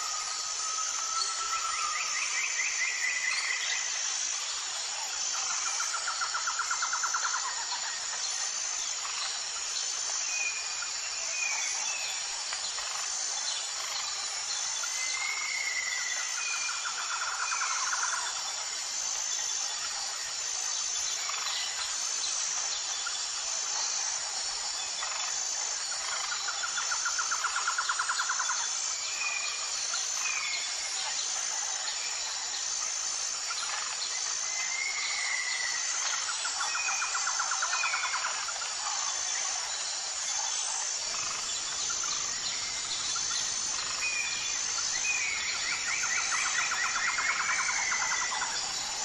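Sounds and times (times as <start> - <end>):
high insect buzz: 0.0 - 49.0.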